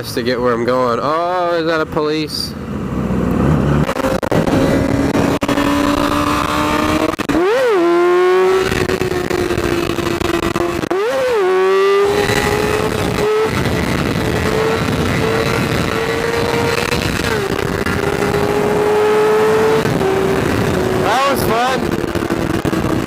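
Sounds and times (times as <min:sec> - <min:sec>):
motorcycle engine with throttle blips: 0:02.6 - 0:21.1, 0:21.8 - 0:23.0
wind rushing over microphone: 0:02.8 - 0:23.0.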